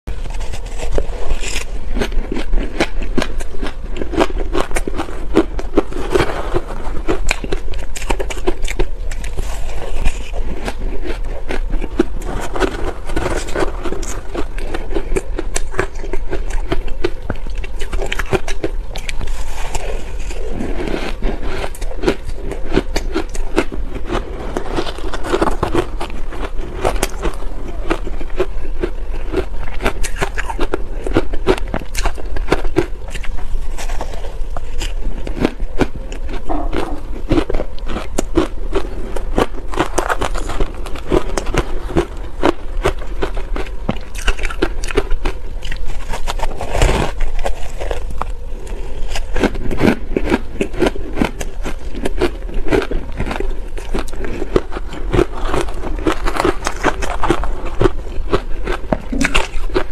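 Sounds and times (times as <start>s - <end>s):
chewing crunchy shaved ice: 0.1s - 59.9s.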